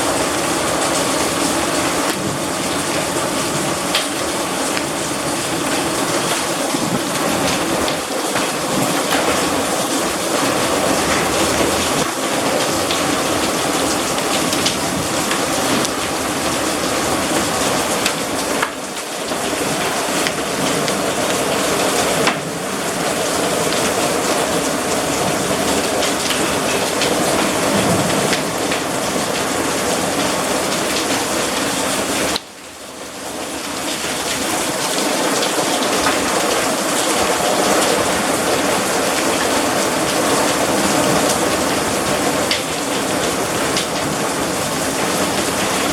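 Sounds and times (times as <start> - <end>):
heavy rain and hail pelting: 0.0 - 45.9.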